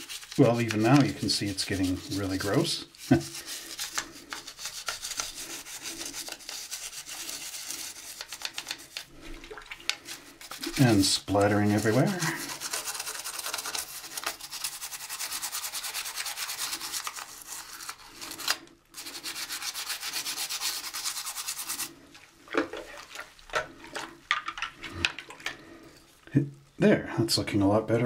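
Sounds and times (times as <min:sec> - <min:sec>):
toothbrush scrubbing plastic: 0:00.0 - 0:26.1.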